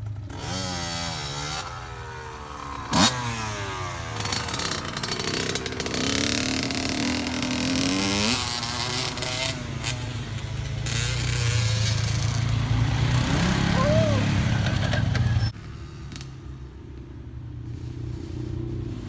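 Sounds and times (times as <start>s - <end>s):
off-road engine under throttle: 0.0s - 19.0s.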